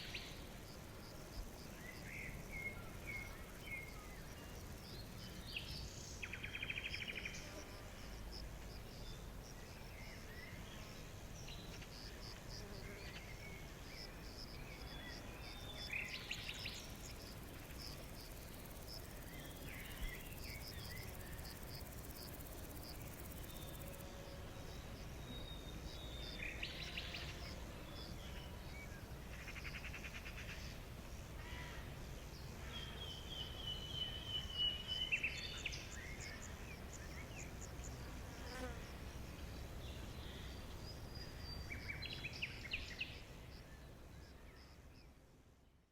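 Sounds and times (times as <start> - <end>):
insects chirping: 0.0 - 45.1
low background hiss: 0.0 - 45.9.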